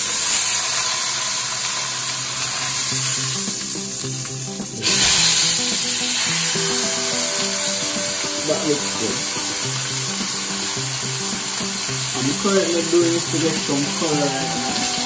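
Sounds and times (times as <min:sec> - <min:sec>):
meat sizzling in hot oil: 0:00.0 - 0:15.0
background music: 0:02.3 - 0:15.0.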